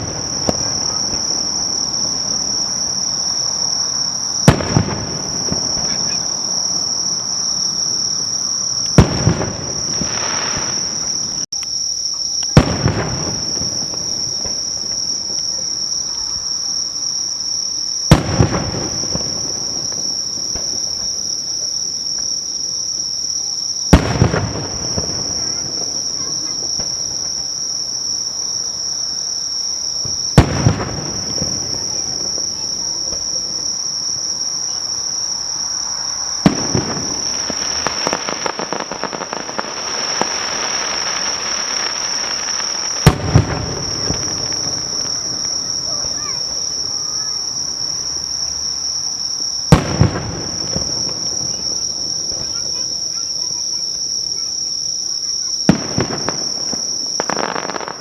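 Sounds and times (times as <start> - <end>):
firework booms: 0.0 - 11.5, 12.4 - 58.0
firework crackling: 0.0 - 58.0
insects chirring: 0.0 - 58.0.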